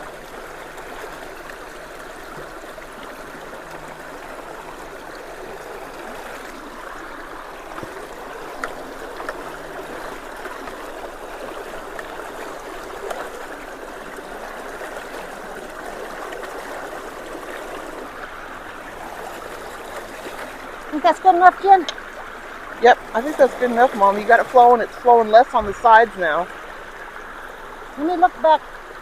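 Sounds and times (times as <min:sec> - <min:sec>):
creek water rushing through culvert: 0:00.0 - 0:29.0
small knocks in water flow: 0:00.0 - 0:29.0.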